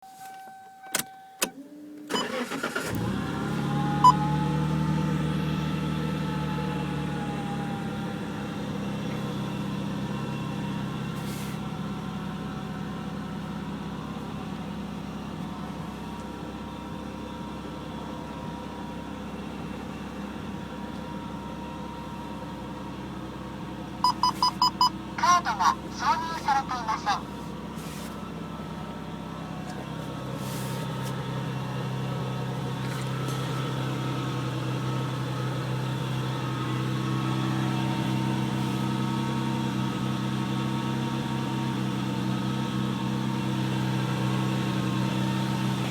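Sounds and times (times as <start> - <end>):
car engine cranking and starting: 0.2 - 45.9
car engine idling: 0.2 - 45.9.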